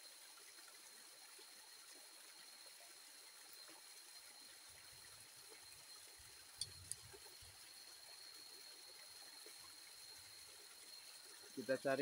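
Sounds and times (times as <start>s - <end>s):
waterfall trickling over rocks: 0.0s - 12.0s.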